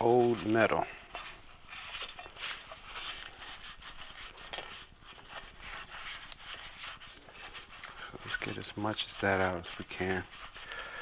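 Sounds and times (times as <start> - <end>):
rag scrubbing metal case: 0.0 - 10.8.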